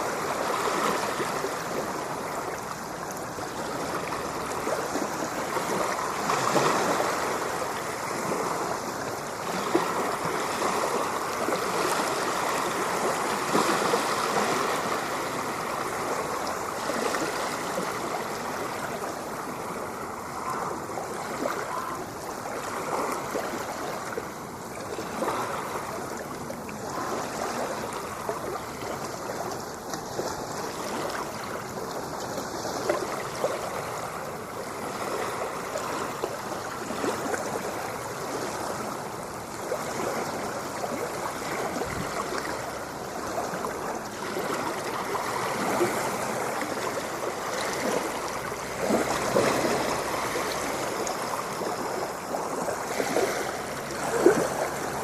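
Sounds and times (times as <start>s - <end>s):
ocean water washing: 0.0s - 55.0s.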